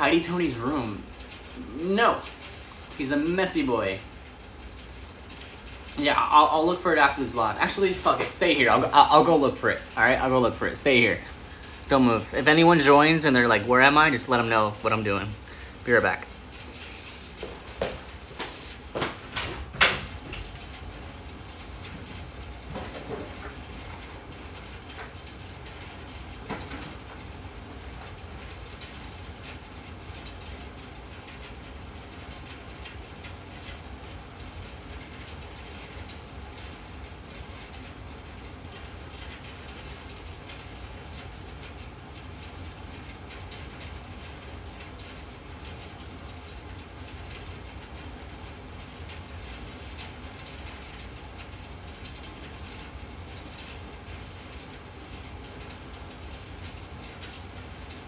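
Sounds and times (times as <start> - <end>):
low hum and hiss: 0.0 - 58.0.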